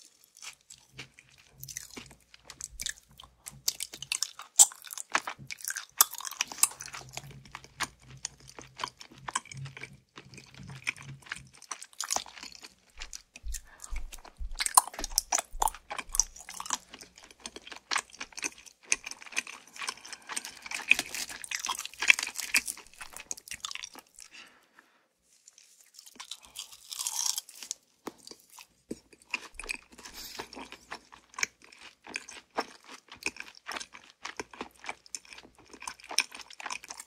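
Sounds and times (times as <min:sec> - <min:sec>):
crunching and chewing fried chicken: 0:00.0 - 0:24.6, 0:25.2 - 0:37.0.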